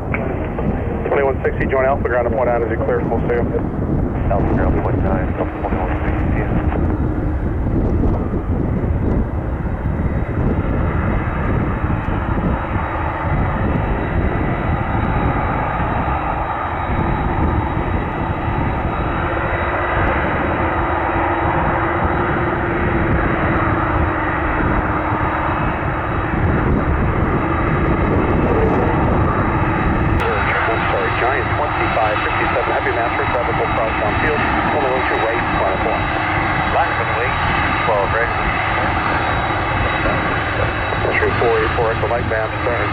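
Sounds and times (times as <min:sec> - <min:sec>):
jet engines running: 0:00.0 - 0:42.9.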